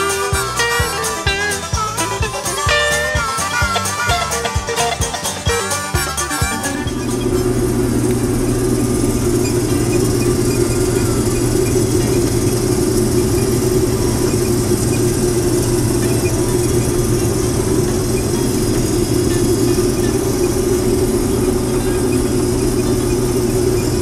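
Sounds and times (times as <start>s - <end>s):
heavy machine engine droning: 0.0s - 24.0s.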